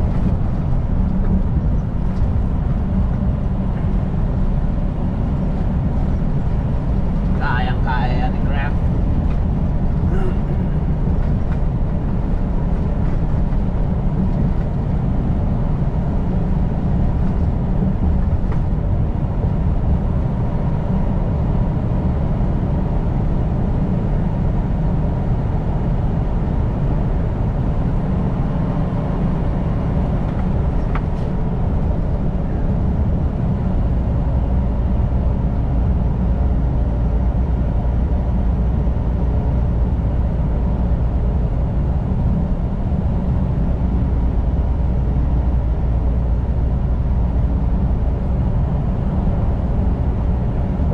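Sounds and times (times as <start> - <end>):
diesel truck engine droning: 0.0 - 50.9
road noise: 0.0 - 50.9.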